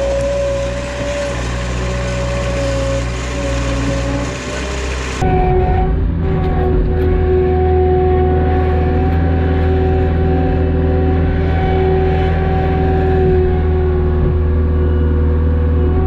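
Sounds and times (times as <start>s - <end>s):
vehicle engine droning with whine: 0.0s - 16.0s.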